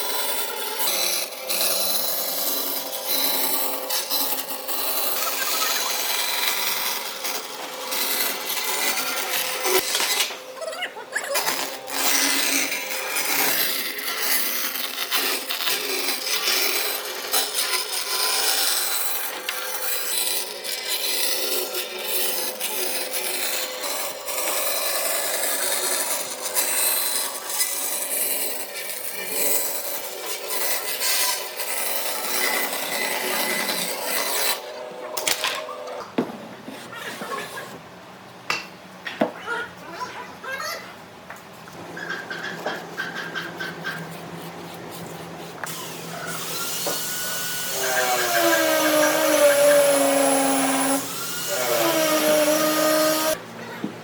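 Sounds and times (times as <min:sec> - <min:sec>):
tool scraping on wood: 0:00.0 - 0:10.4, 0:11.4 - 0:35.6, 0:36.4 - 0:37.8, 0:41.7 - 0:53.4.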